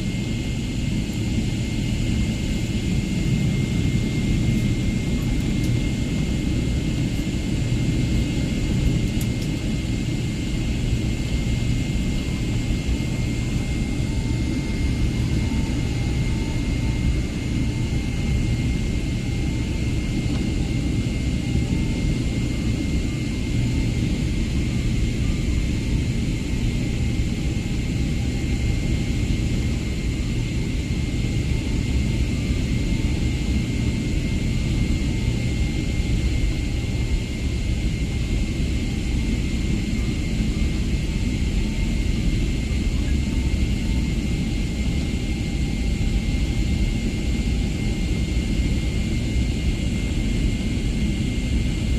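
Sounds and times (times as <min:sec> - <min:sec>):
jet airliner rumble and whine: 0:00.0 - 0:51.9.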